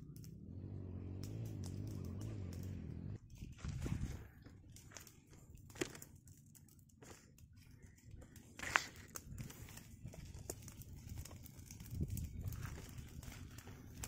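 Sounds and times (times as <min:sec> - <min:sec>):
dry leaves rustling and crackling: 0:01.0 - 0:14.0
twigs snapping: 0:01.0 - 0:14.0.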